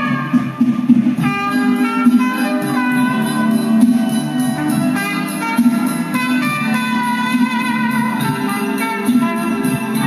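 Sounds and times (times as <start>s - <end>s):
vinyl record music through speaker: 0.0s - 10.0s.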